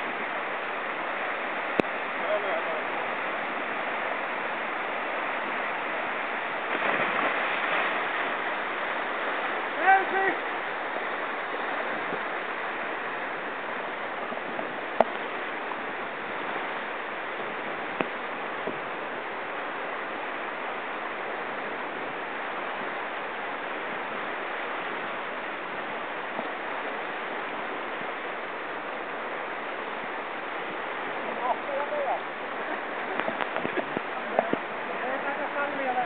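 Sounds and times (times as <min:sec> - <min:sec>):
whitewater rushing: 0:00.0 - 0:36.0.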